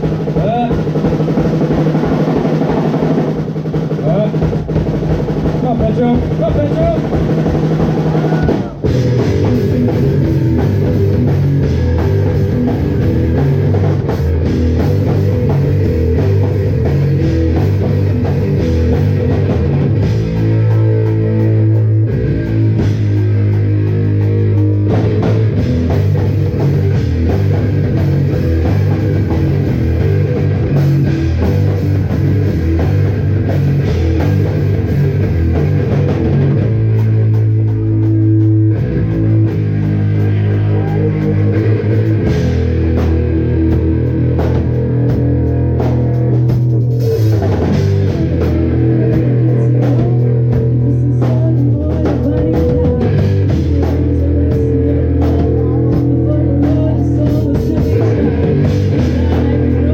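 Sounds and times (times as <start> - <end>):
rock band playing loudly: 0.0 - 59.9.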